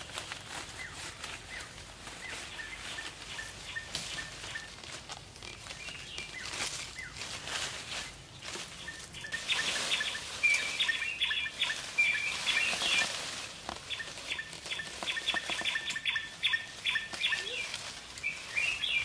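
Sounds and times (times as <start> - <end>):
leafy branches rustling: 0.0 - 19.0
small birds chirping: 0.0 - 19.0
twigs cracking: 0.0 - 19.0.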